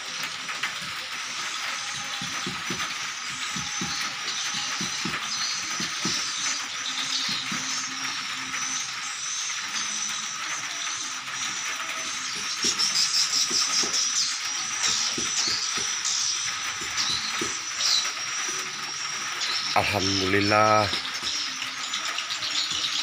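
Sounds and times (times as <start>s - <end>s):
insects and frogs trilling: 1.2s - 23.0s.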